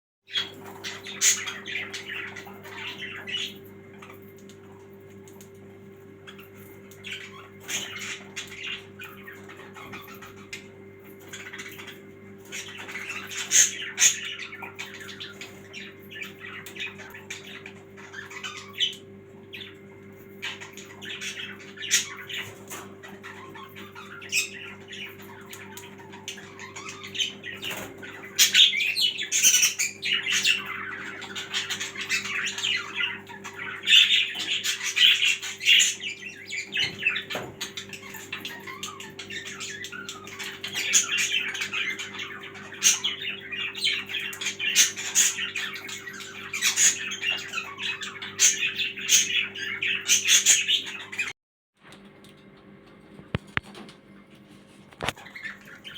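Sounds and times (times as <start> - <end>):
small birds chirping: 0.2 - 51.4, 52.6 - 55.9.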